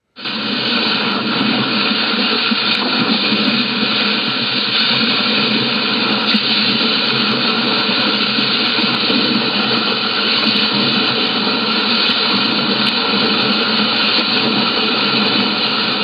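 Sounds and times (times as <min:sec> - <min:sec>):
loud rushing noise: 0:00.2 - 0:16.0.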